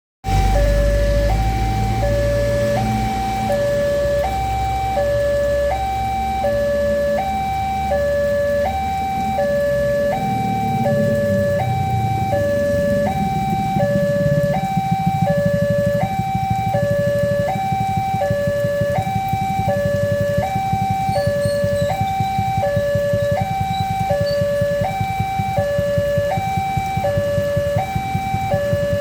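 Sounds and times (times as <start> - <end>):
two-tone level crossing alarm: 0.2 - 29.0
low engine rumble: 0.3 - 29.0.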